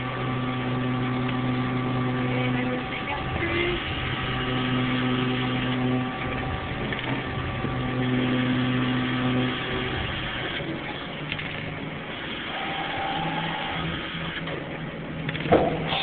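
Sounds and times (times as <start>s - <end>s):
low motor hum: 0.0s - 16.0s
machinery running: 0.0s - 16.0s.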